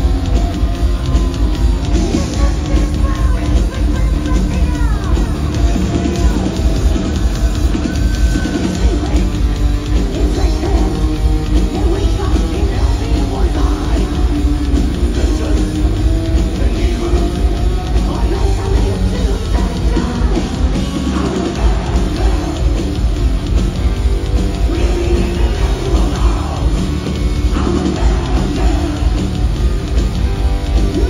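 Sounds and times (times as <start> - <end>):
heavy metal band playing live: 0.0 - 31.0.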